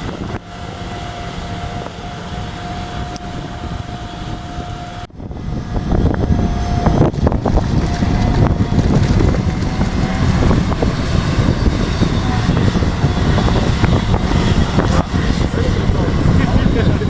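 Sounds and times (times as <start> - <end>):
excavator engine whining: 0.0 - 17.0
heavy rumbling: 0.0 - 17.0.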